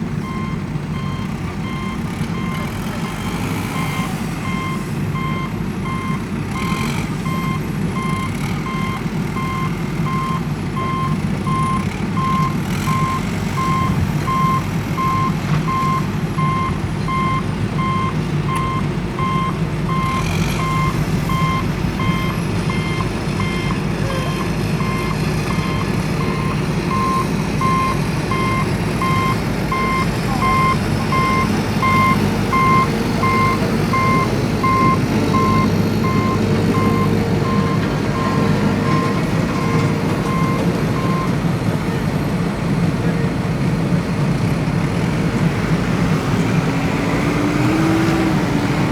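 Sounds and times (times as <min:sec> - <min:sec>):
low engine rumble: 0:00.0 - 0:48.9
reversing alarm beeping: 0:00.2 - 0:41.4.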